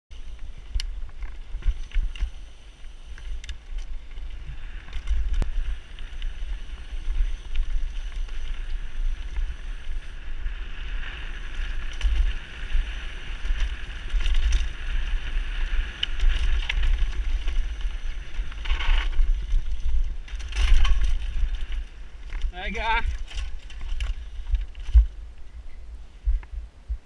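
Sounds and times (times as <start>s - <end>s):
bike clicks and rattles: 0.2s - 25.5s
wind buffeting microphone: 0.2s - 27.0s.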